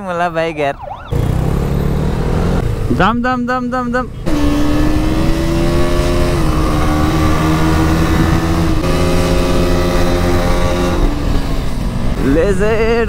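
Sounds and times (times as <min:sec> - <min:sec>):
road and wind noise: 0:00.0 - 0:13.0
motorcycle engine running: 0:01.1 - 0:13.0.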